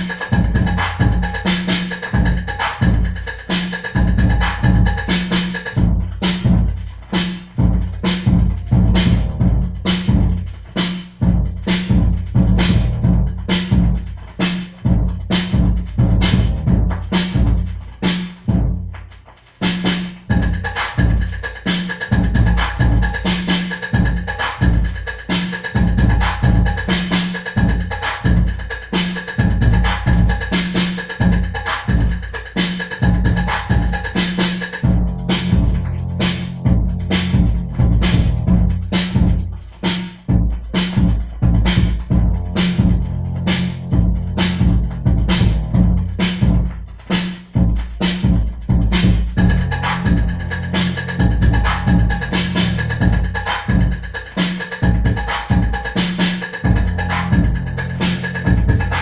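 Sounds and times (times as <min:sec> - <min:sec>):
drum machine beat: 0:00.0 - 0:59.0
funk dance music: 0:00.0 - 0:59.0.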